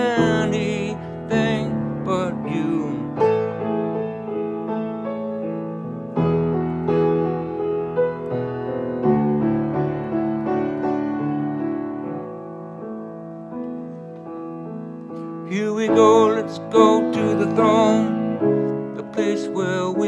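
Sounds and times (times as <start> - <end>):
piano playing sustained chords: 0.0 - 20.0.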